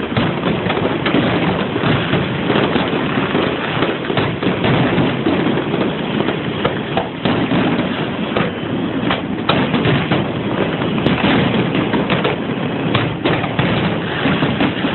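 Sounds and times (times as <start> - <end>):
fireworks rumble: 0.0 - 14.9
fireworks sharp bangs: 0.0 - 14.9.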